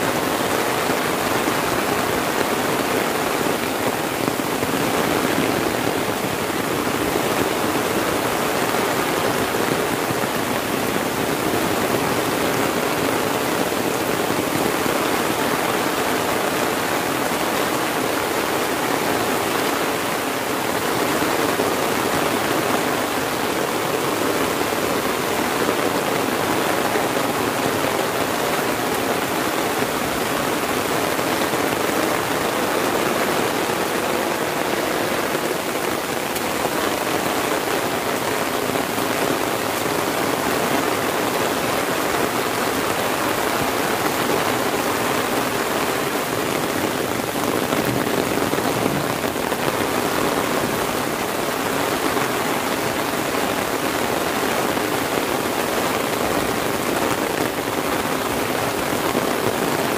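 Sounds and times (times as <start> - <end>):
heavy rain on umbrella: 0.0 - 59.9.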